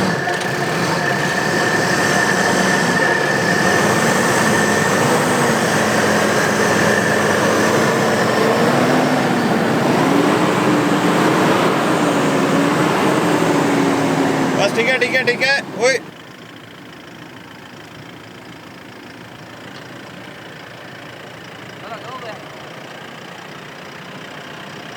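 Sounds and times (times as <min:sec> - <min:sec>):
diesel engine running under load: 0:00.0 - 0:24.9.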